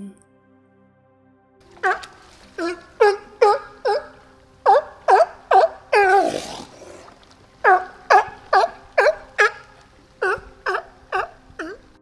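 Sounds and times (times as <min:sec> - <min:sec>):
sea lion barking: 0:01.6 - 0:12.0.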